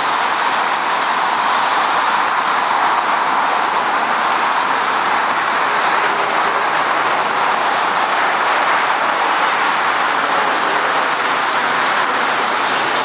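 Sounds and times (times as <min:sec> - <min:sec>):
jet airliner roaring overhead: 0:00.0 - 0:13.0.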